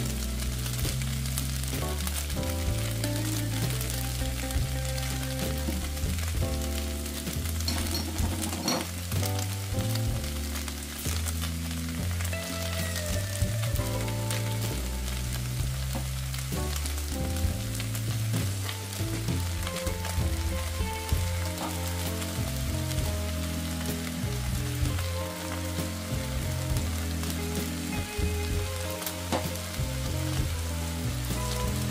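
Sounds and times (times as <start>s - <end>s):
background music bass line: 0.0s - 31.9s
stir-fry sizzling in a pan: 0.0s - 31.9s.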